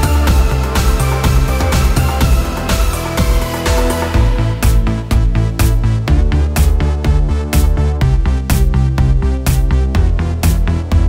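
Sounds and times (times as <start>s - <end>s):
electronic music with bass line: 0.0s - 11.0s.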